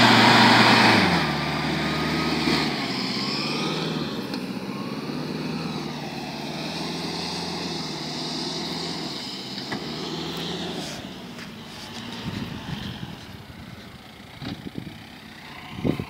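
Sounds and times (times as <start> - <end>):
jeep engine driving on sand: 0.0 - 16.0.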